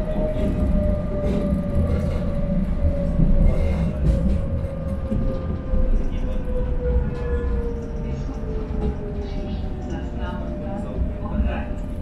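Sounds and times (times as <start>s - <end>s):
tram motor whine: 0.0s - 12.0s
tram wheels rumbling on track: 0.0s - 12.0s.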